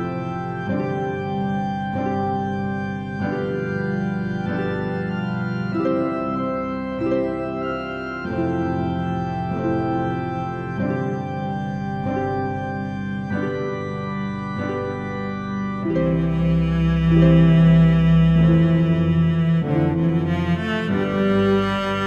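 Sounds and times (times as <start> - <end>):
sustained organ chords: 0.0 - 22.0.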